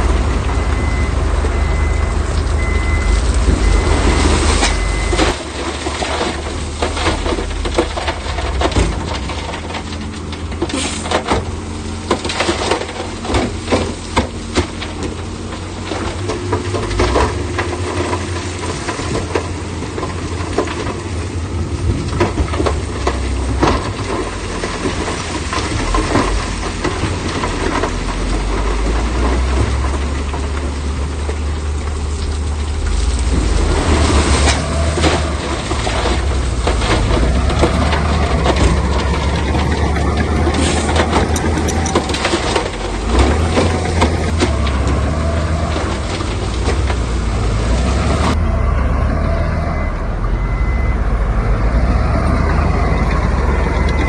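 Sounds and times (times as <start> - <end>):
heavy machinery engine running: 0.0 - 54.0
metal knocks and clatter: 2.6 - 48.4.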